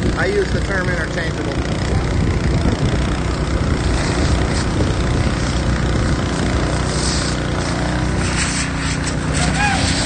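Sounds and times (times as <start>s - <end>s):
fire hose spraying water: 0.0s - 10.0s
water pump engine rumbling: 0.0s - 10.0s.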